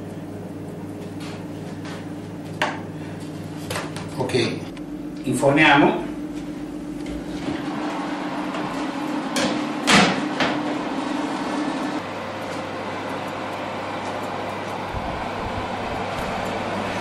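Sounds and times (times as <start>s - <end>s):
oven hum: 0.0s - 17.0s.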